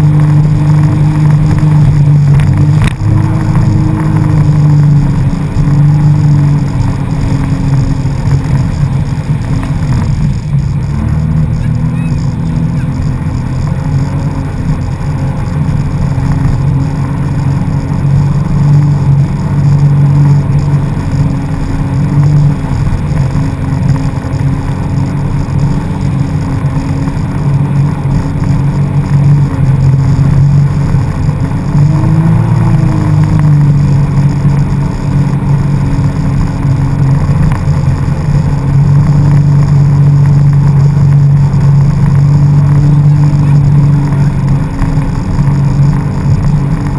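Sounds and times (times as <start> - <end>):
jet ski engine running: 0.0 - 46.9.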